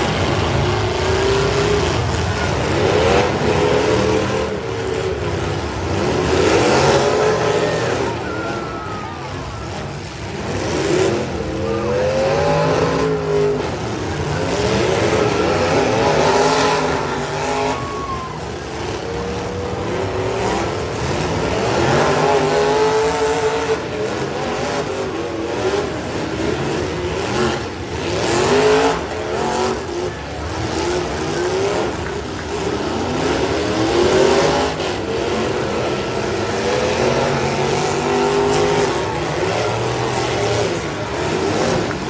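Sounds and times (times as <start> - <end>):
engines revving hard: 0.0 - 42.0.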